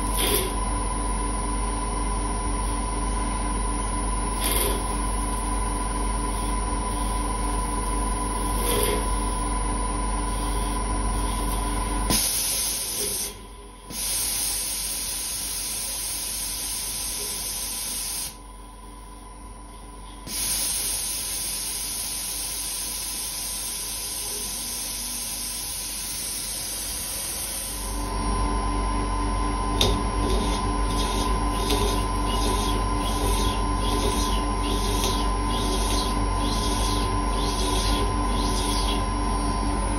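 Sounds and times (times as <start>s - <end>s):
machine spindle whine: 0.0s - 39.9s.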